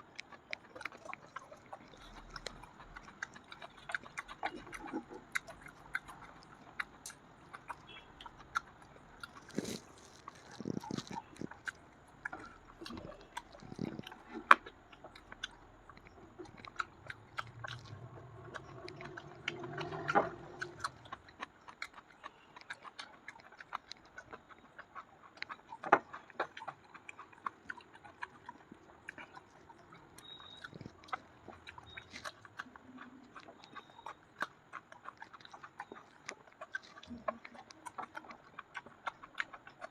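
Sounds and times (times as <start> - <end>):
person chewing and biting: 0.0 - 39.9.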